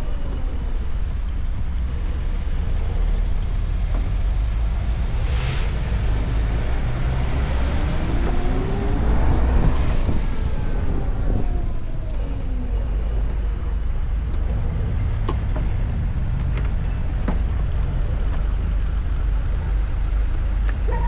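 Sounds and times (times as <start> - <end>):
wind and road rumble: 0.0 - 21.0.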